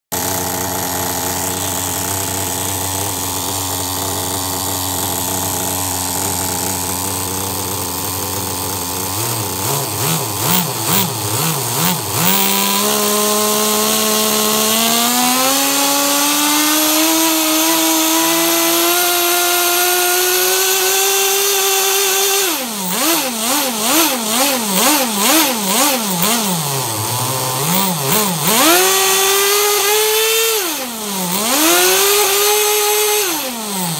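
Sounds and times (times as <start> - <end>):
small nitro engine revving: 0.1 - 33.9.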